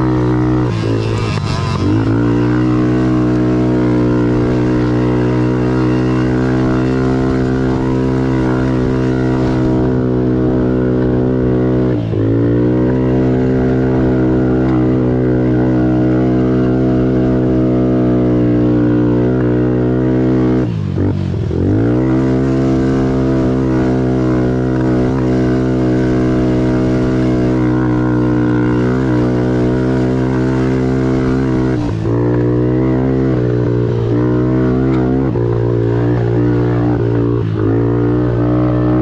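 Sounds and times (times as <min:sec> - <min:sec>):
quad engine revving: 0:00.0 - 0:39.0.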